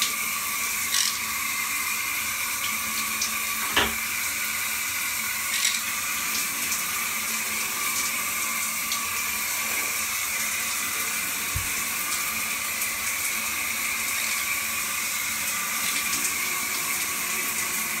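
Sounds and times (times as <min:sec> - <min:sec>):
shower water running: 0:00.0 - 0:18.0.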